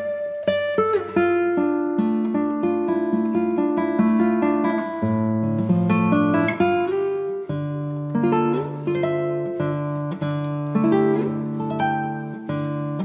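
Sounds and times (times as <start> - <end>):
plucked guitar notes: 0.0 - 13.0.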